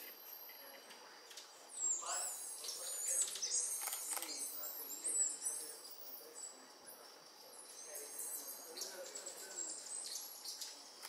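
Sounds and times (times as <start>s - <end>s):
forest background: 0.0s - 11.0s.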